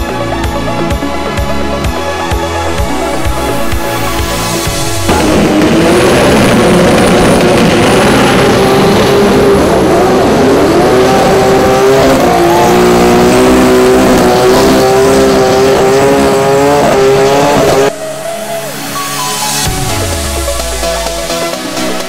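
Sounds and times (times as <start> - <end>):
electronic music: 0.0 - 22.0
racing car engine at high revs: 2.7 - 22.0.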